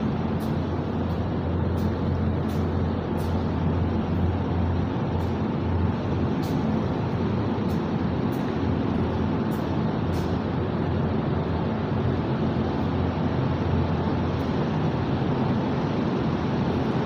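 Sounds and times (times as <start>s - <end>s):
ventilation fans droning: 0.0s - 17.0s.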